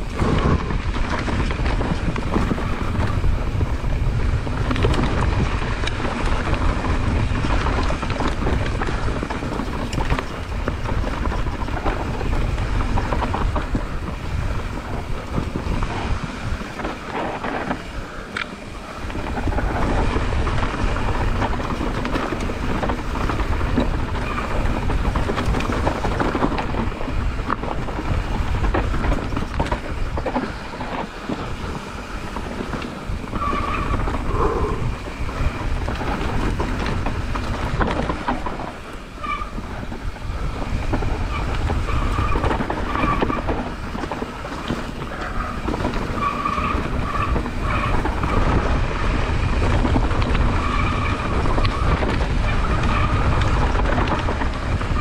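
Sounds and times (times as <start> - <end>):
mountain bike rattling on rocky trail: 0.0 - 55.0
wind buffeting microphone: 0.0 - 55.0.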